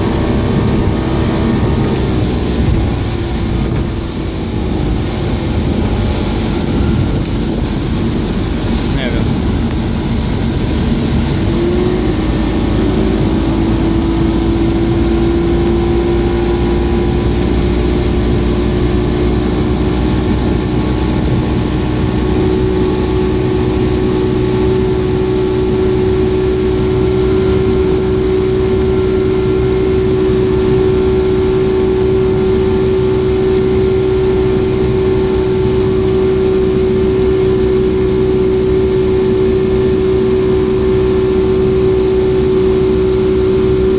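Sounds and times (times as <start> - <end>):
outboard motor running at high revs: 0.0 - 43.9
rushing wind: 0.0 - 43.9
water rushing: 0.0 - 43.9.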